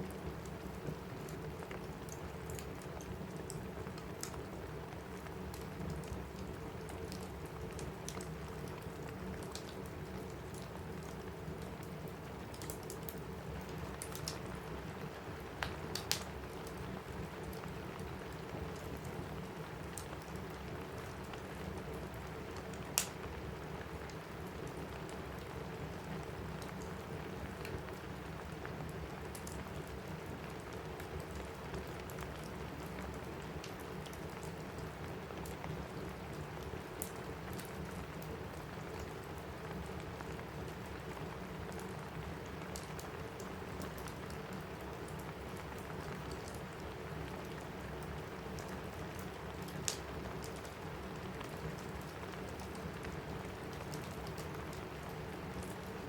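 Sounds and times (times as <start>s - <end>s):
rain on a roof: 0.0s - 56.0s
wood fire crackling: 0.1s - 56.0s.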